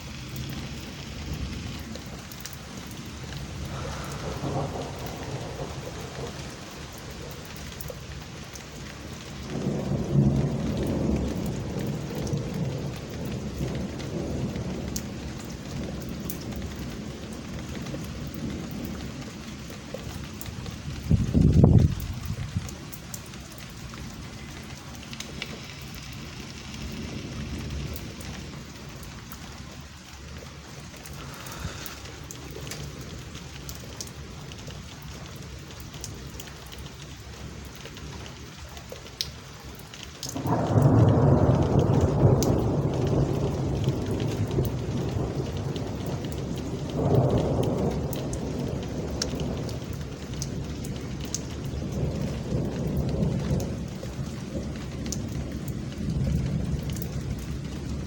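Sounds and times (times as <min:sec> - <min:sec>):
steady rain: 0:00.0 - 0:58.0
thunder rolling: 0:00.1 - 0:08.2, 0:09.3 - 0:34.0, 0:40.3 - 0:58.0.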